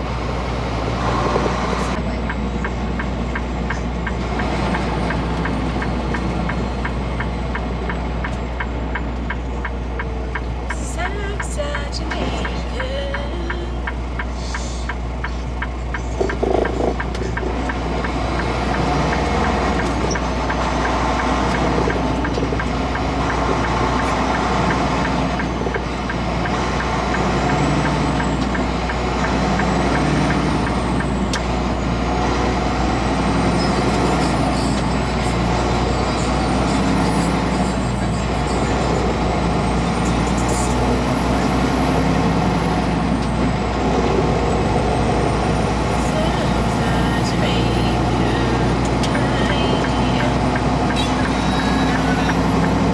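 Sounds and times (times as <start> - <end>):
truck engine droning: 0.0 - 52.9.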